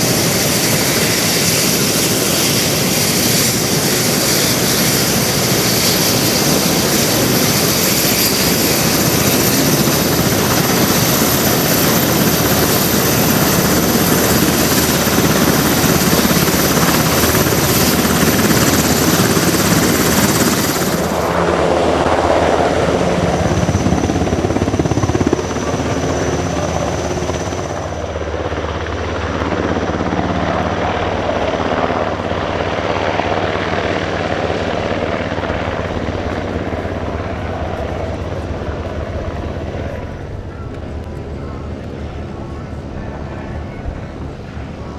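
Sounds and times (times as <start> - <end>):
helicopter rotor noise: 0.0 - 44.9
helicopter turbine whine: 0.0 - 44.9.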